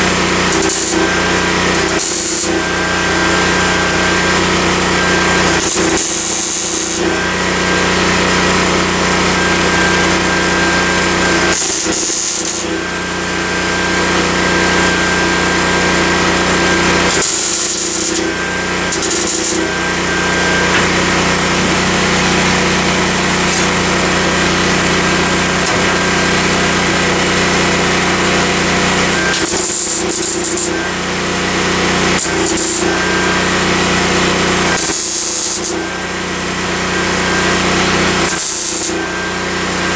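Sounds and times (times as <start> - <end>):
power tool running: 0.0 - 39.9.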